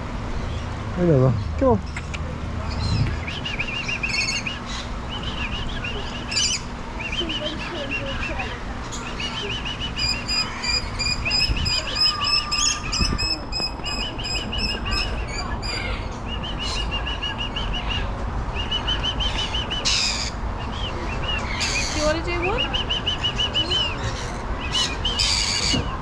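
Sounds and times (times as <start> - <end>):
birds chattering: 0.0 - 26.0.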